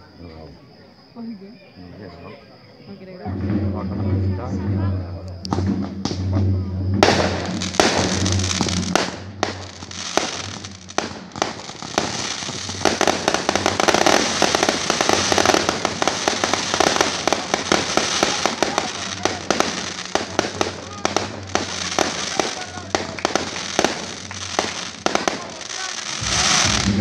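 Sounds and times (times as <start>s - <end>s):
firework bangs and crackles: 3.2s - 27.0s.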